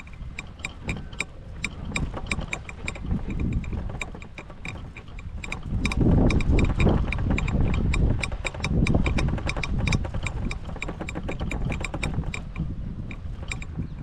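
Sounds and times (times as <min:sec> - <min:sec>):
golf cart rumbling: 0:00.0 - 0:14.0
rattling clicks: 0:00.0 - 0:14.0.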